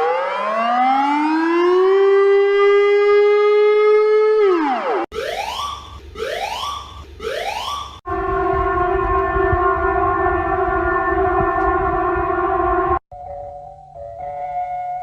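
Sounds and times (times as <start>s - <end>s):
alarm rising whoops: 0.0s - 13.0s
civil defence siren wailing: 0.0s - 13.0s.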